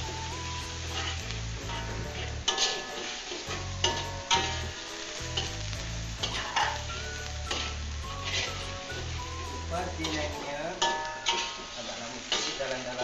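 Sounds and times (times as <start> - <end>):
paste sizzling in a wok: 0.0 - 13.0
metal ladle scraping a pan: 0.8 - 5.6, 6.2 - 9.1, 10.0 - 12.8.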